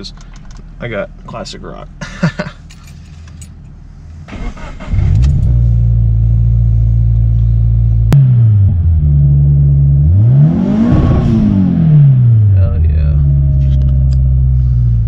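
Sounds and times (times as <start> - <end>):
car engine idling and revving: 2.4 - 15.0.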